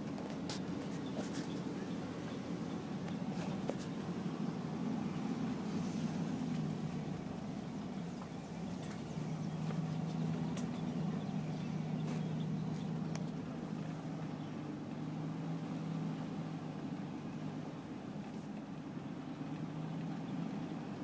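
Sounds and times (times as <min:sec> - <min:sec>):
car engine drone and road noise: 0:00.0 - 0:21.0.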